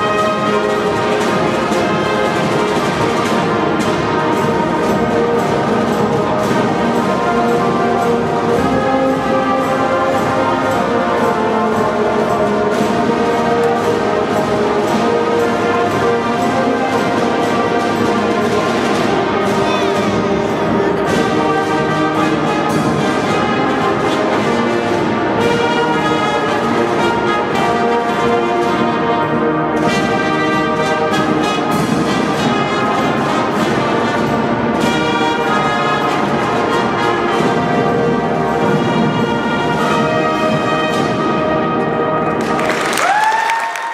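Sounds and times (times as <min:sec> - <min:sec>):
brass instruments playing melody: 0:00.0 - 0:43.9
snare drums beating: 0:00.0 - 0:43.9.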